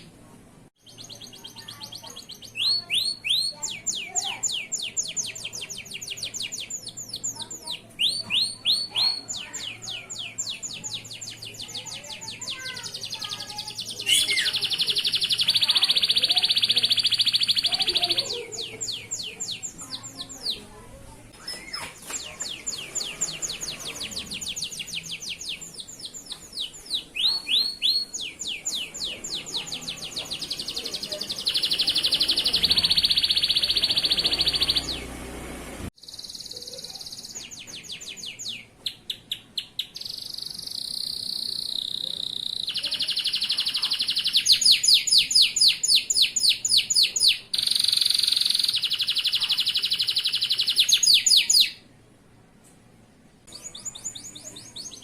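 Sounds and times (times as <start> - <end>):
canary singing trills: 0.8 - 51.9, 53.5 - 55.0.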